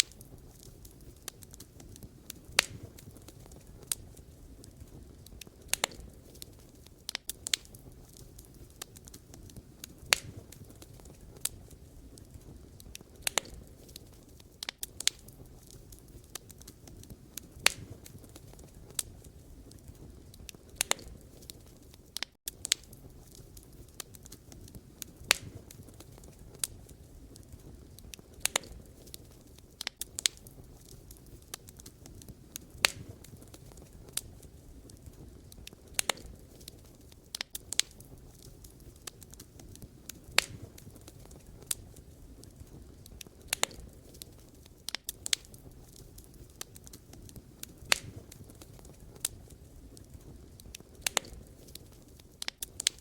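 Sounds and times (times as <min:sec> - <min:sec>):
burning logs crackling: 0:00.0 - 0:53.0
low rumble of flame: 0:00.0 - 0:53.0.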